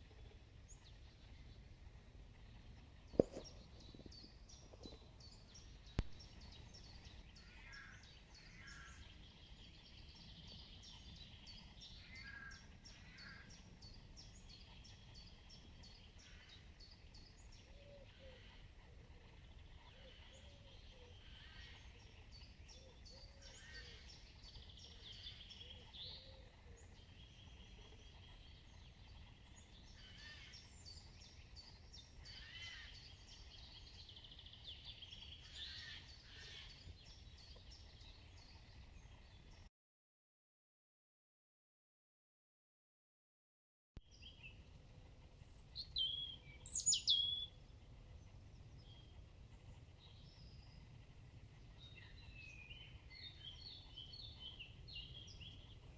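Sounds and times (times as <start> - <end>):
low steady rumble: 0.0 - 39.4, 44.2 - 46.6, 47.2 - 55.9
songbirds singing and calling: 0.0 - 39.7, 44.1 - 55.9.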